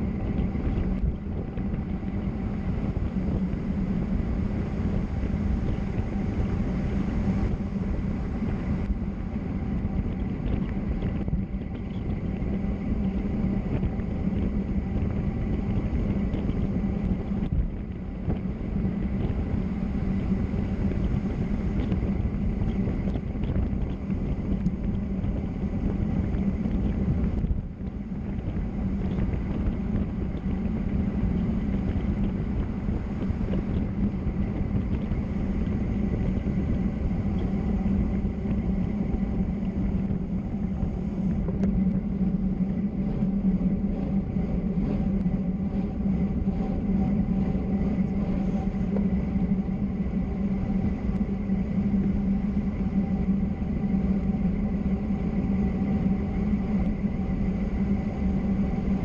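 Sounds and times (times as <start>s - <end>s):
low drone: 0.0s - 59.0s.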